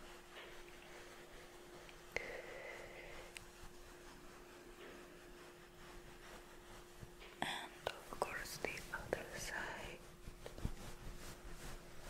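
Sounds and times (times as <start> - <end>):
towel rubbing hair: 0.0 - 12.0.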